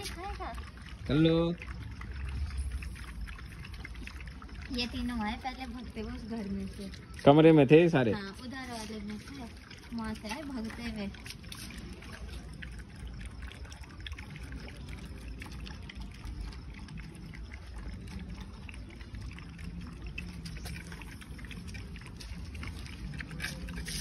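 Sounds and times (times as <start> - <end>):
dogs lapping and chewing food: 0.0 - 24.0.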